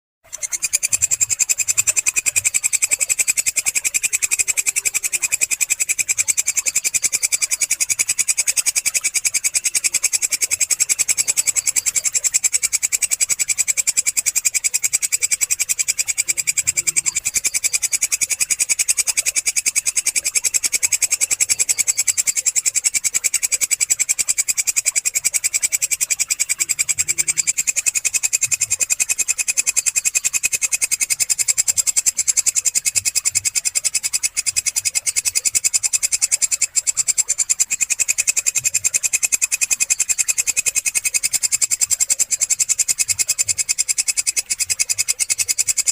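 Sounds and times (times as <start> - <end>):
katydid high-pitched trill: 0.3 - 45.9.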